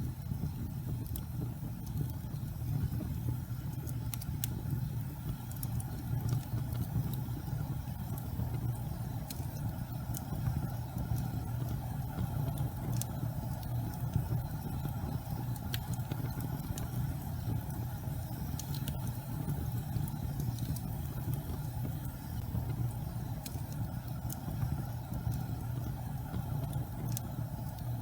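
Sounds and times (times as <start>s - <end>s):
gas fire flames rumbling: 0.0s - 28.0s
sharp crackles: 0.2s - 28.0s.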